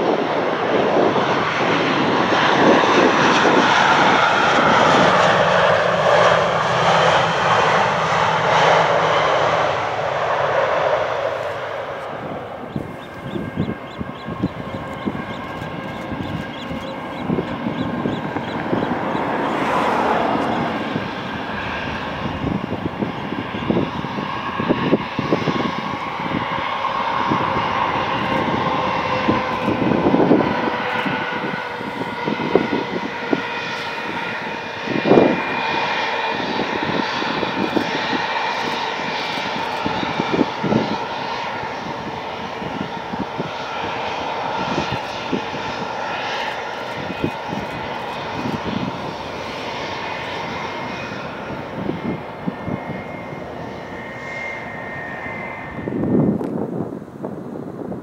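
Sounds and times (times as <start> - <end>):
steady engine drone: 0.0 - 58.0.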